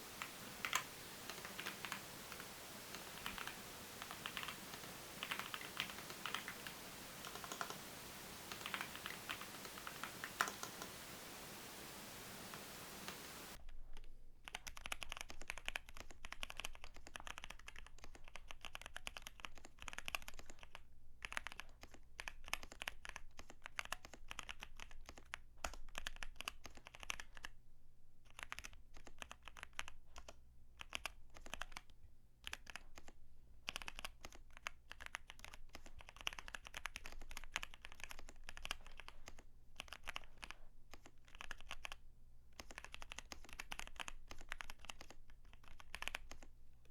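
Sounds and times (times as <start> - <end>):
mechanical keyboard typing: 0.2 - 11.0, 14.0 - 27.5, 28.3 - 42.0, 42.6 - 46.5.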